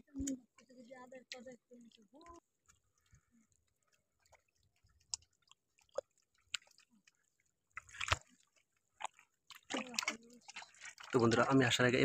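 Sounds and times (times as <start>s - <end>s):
wet mud squelching: 0.0s - 12.0s.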